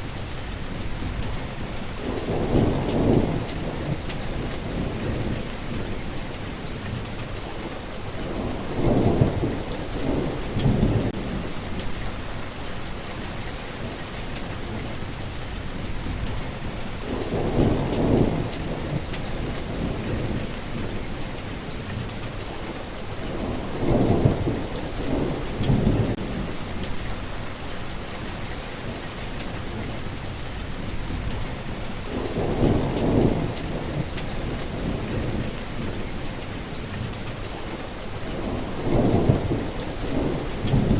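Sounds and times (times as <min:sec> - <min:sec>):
heavy rain: 0:00.0 - 0:40.9
thunder rumbling: 0:00.6 - 0:06.2, 0:08.0 - 0:22.4, 0:23.0 - 0:40.9.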